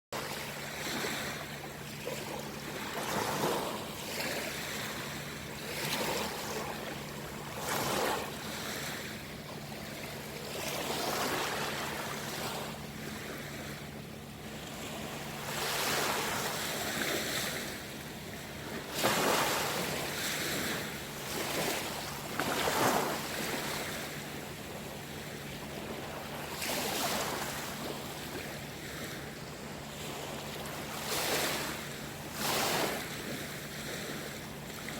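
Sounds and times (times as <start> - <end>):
small waves washing ashore: 0.2 - 34.9.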